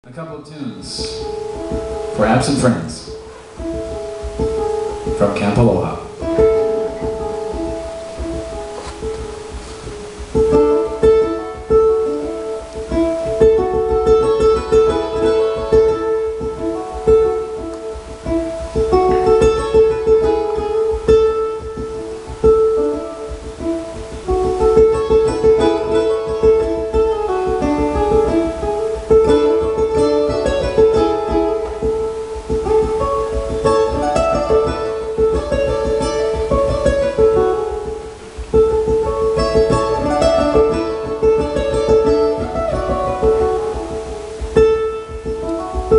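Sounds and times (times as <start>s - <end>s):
cello sustained notes: 0.1s - 45.9s
ukulele melody: 0.2s - 45.9s.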